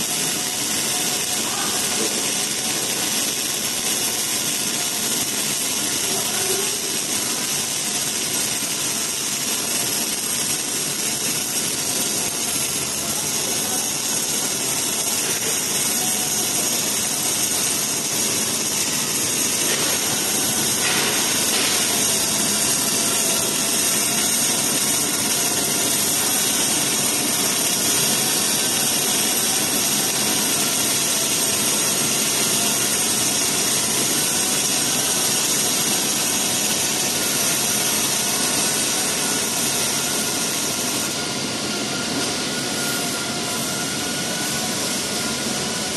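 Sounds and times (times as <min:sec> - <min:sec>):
welding arc hissing: 0:00.0 - 0:45.9.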